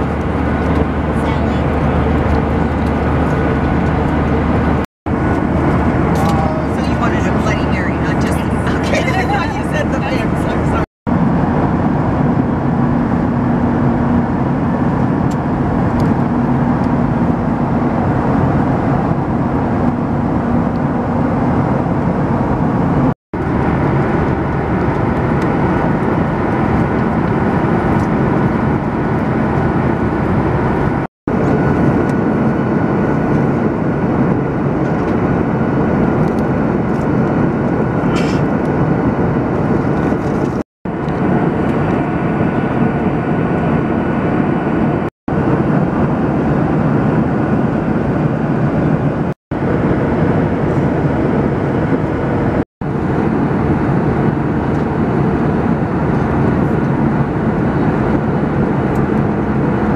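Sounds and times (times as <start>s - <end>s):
aircraft cabin jet roar: 0.0s - 59.9s.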